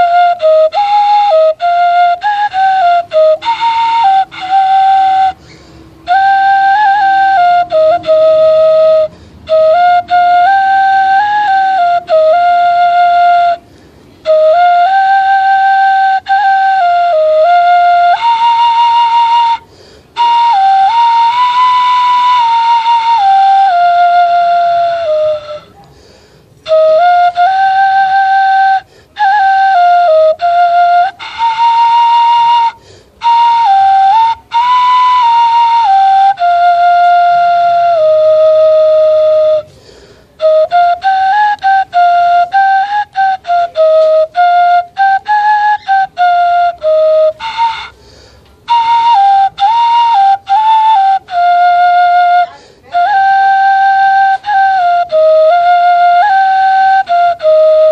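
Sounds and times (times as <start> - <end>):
bamboo flute melody: 0.0 - 57.9.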